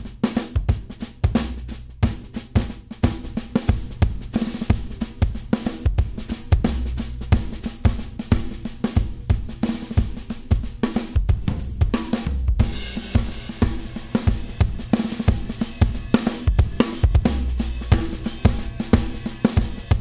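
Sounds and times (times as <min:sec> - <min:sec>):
drum kit playing a groove: 0:00.0 - 0:20.0.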